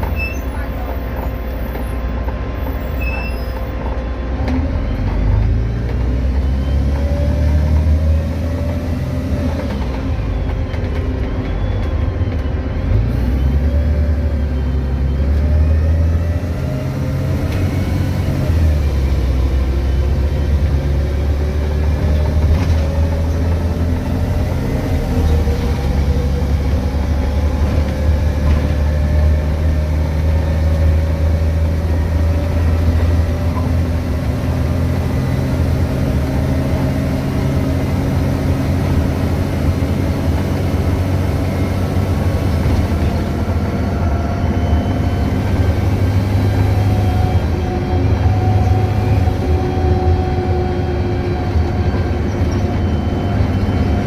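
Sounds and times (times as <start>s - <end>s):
bus diesel engine rumbling: 0.0s - 54.0s.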